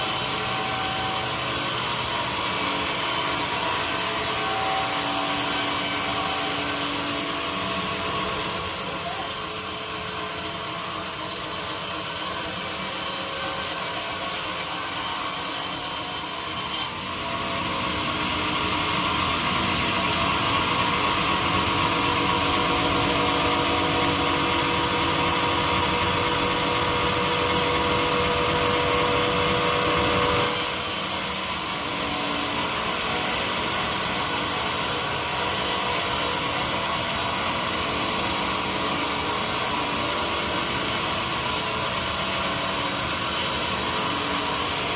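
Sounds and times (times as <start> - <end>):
power tool working wood: 0.0 - 17.1, 20.6 - 44.9.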